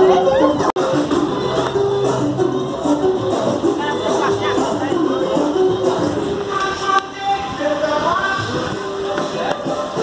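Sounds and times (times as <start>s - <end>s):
upbeat music with singing: 0.0s - 10.0s.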